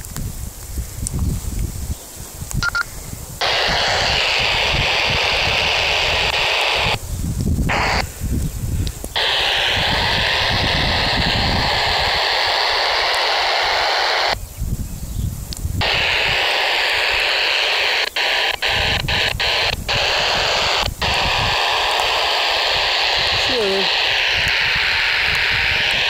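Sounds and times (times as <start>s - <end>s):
radio static hiss: 2.6s - 14.4s, 15.8s - 26.0s.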